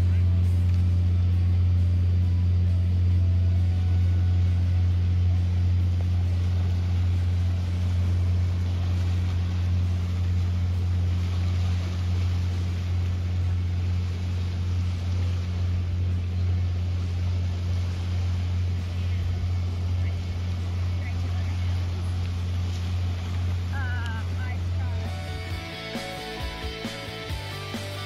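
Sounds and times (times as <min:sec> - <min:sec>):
low engine drone: 0:00.0 - 0:28.0
small waves on shore: 0:00.0 - 0:28.0.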